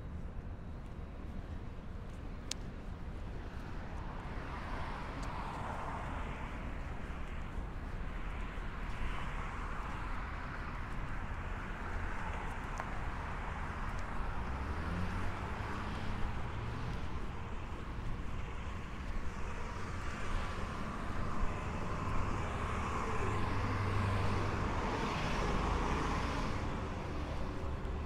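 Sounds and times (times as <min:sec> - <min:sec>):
cars passing: 0:03.4 - 0:28.0.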